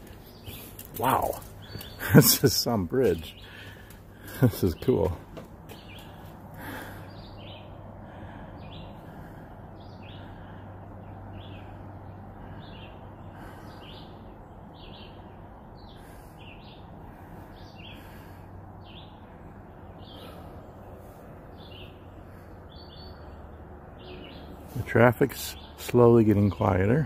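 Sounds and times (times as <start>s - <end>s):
birds chirping: 0.0s - 27.0s
distant highway traffic rumble: 0.0s - 27.0s.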